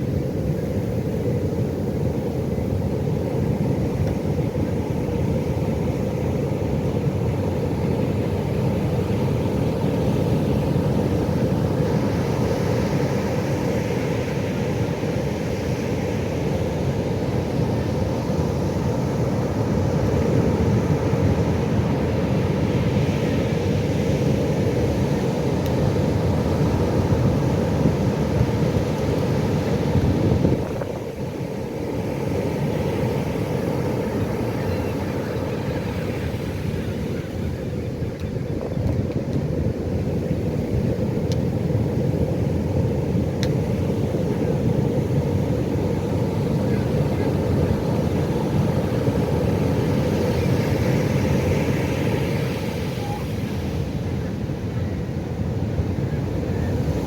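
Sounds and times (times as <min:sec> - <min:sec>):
ocean waves washing in: 0:00.0 - 0:38.8, 0:39.4 - 0:57.0.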